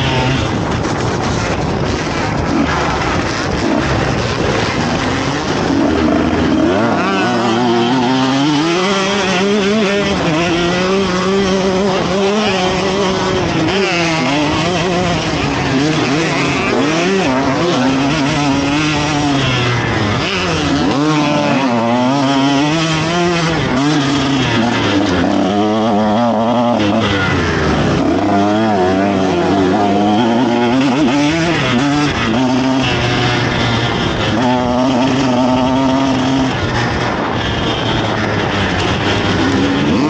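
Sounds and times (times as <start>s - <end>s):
motocross engine revving: 0.0s - 40.0s.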